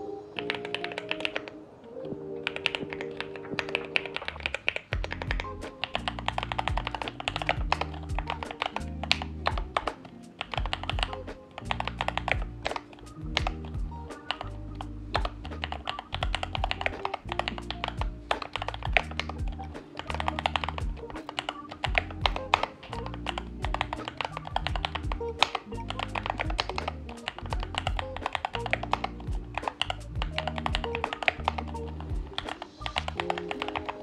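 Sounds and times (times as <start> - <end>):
fast typing on mechanical keyboard: 0.4 - 1.6, 2.4 - 34.0
background music with bass line: 4.2 - 34.0.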